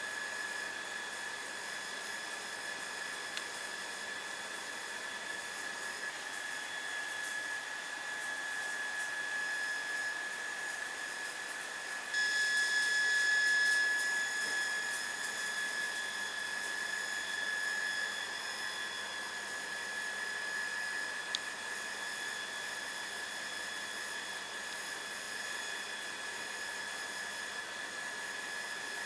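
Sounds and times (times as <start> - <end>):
high-pitched whine: 0.0 - 29.0.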